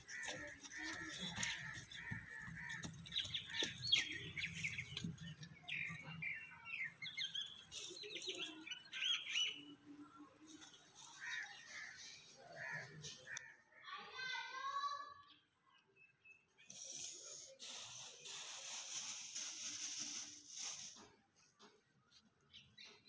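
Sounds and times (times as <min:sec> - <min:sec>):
small birds chirping: 0:00.0 - 0:13.6, 0:15.1 - 0:23.0.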